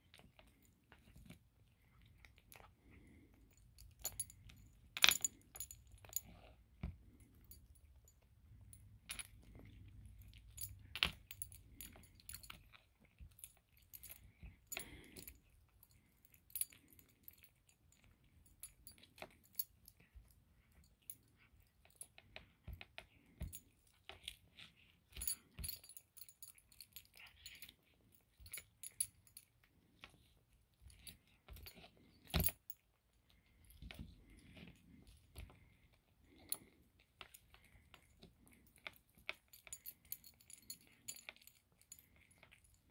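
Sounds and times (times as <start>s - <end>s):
cat chewing and crunching: 0.0s - 42.9s.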